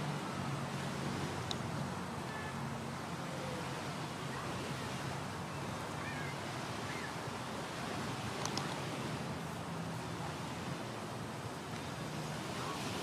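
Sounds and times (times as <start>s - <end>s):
surf washing: 0.0s - 13.0s
vehicle engine humming: 0.0s - 13.0s
wind on microphone: 0.0s - 13.0s.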